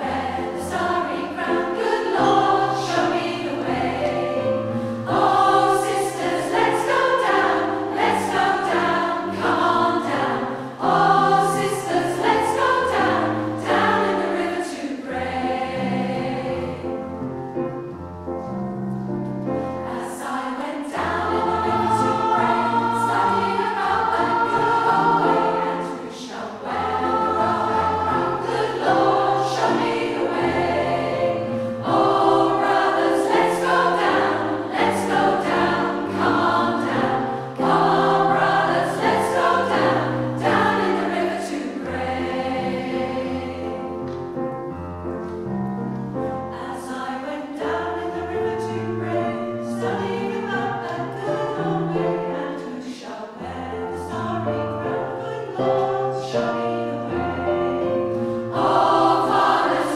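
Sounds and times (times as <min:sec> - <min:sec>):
choir singing in parts: 0:00.0 - 0:18.5, 0:19.6 - 0:45.4, 0:46.1 - 0:59.9.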